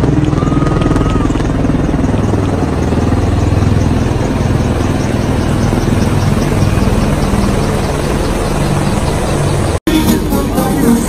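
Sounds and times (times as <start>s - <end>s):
helicopter rotor thrum: 0.0s - 9.8s.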